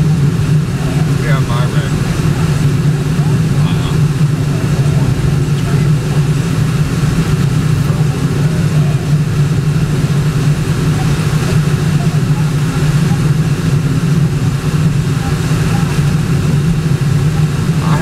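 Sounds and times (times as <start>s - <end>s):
car engine drone: 0.0s - 18.0s
tyres on paved road: 0.0s - 18.0s.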